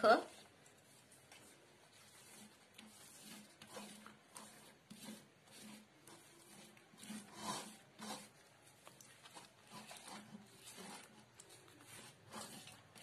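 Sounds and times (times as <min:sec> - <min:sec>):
hand smearing wet batter on leaf: 0:00.0 - 0:13.0.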